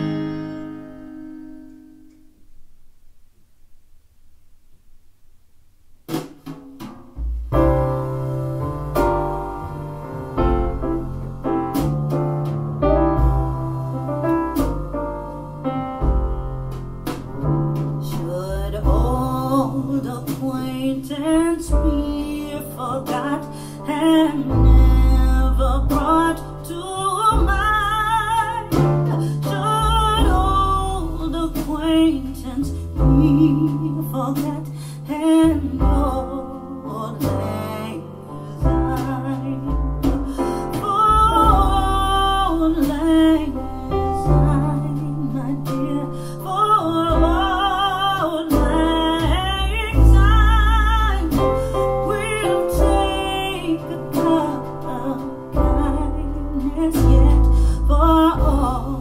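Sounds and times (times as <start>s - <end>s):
steady bass line: 7.2s - 34.7s, 35.4s - 59.0s.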